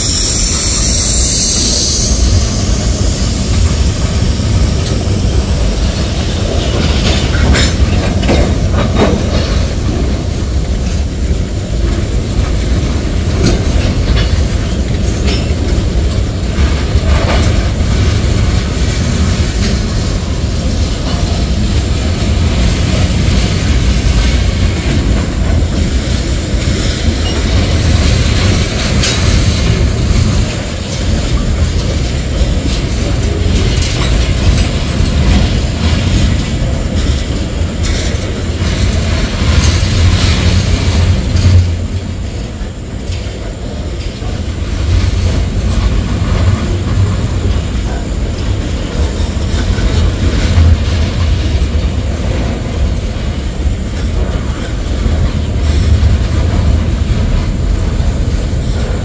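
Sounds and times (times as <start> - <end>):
freight train rumbling past: 0.0 - 59.0
wheels clicking over rail joints: 1.2 - 59.0.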